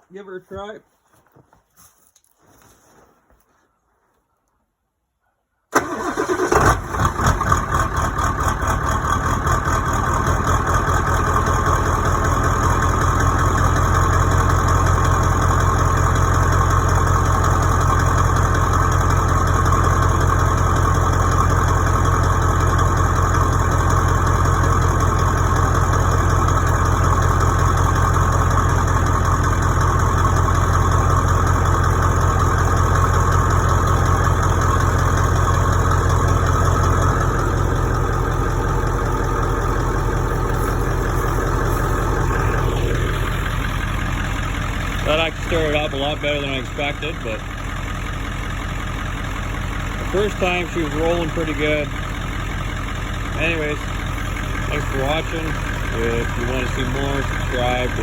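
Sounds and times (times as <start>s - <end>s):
diesel engine idling: 5.7s - 58.0s.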